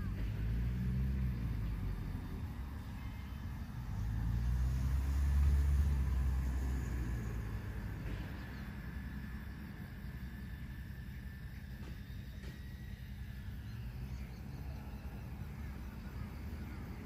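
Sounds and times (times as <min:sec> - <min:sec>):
vehicle engine rumble passing: 0:00.0 - 0:17.0.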